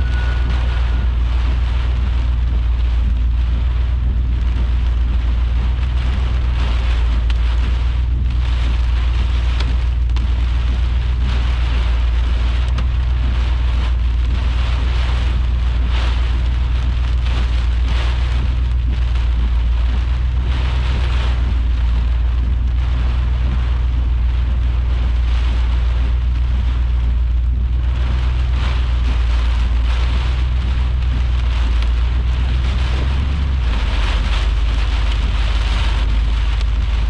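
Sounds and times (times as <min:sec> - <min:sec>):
heavy rain pelting: 0:00.0 - 0:37.0
low thunder rumble: 0:00.0 - 0:37.0.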